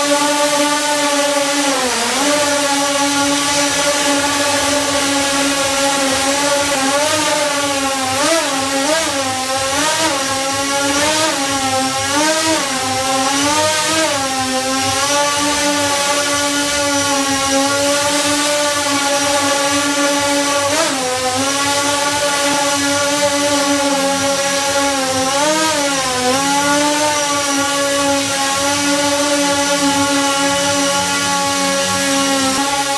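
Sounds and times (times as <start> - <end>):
multicopter motors humming: 0.0 - 32.9.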